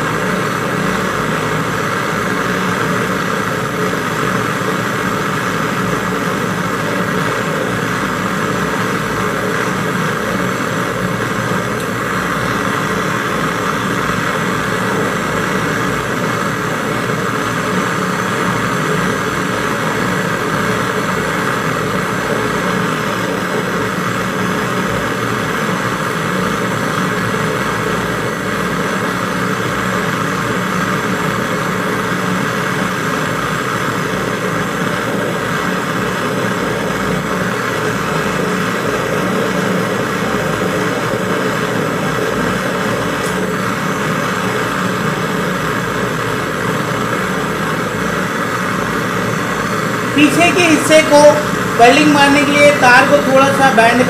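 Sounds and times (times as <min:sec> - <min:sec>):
gas torch hissing: 0:00.0 - 0:54.0.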